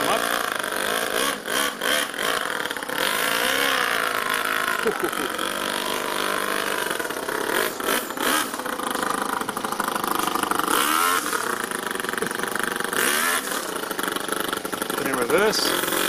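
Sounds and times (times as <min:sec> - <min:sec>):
nitro engine revving: 0:00.0 - 0:16.0.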